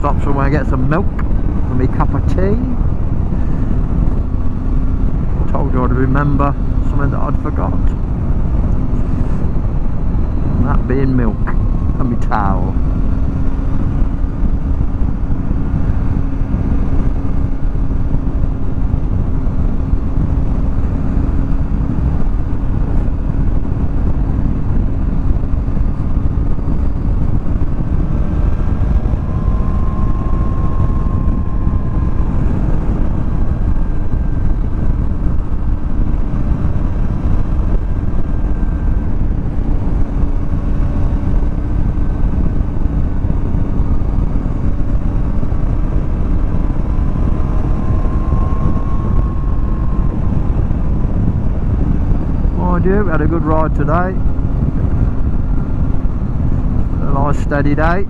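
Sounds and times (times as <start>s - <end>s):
motorcycle engine hum: 0.0s - 58.0s
wind rush over microphone: 0.0s - 58.0s.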